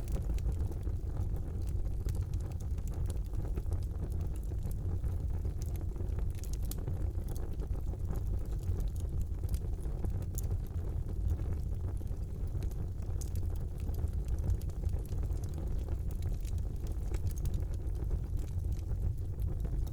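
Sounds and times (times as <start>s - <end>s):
fire crackling and popping: 0.0s - 19.9s
fire rumbling: 0.0s - 19.9s.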